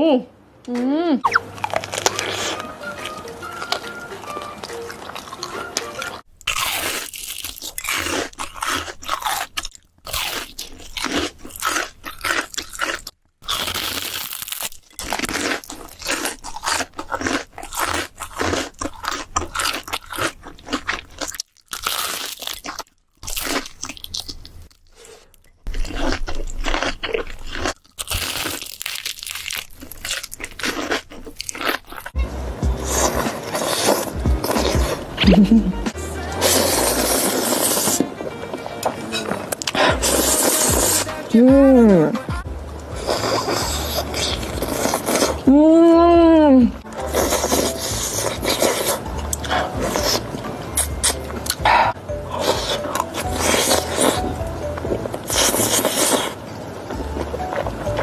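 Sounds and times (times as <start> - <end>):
crunching and chewing crisp food: 1.3 - 41.4, 42.7 - 45.8, 46.7 - 58.0.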